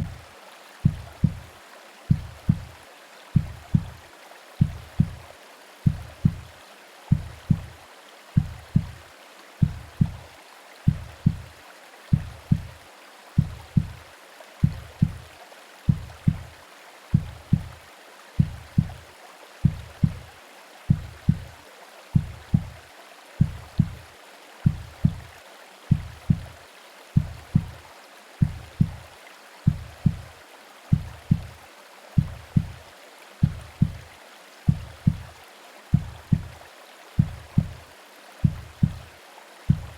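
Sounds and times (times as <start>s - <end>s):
soft low heartbeat thumps: 0.0s - 12.8s, 13.4s - 17.8s, 18.4s - 26.6s, 27.2s - 31.6s, 32.2s - 39.9s
rain: 0.0s - 39.9s
white noise hiss: 0.0s - 39.9s.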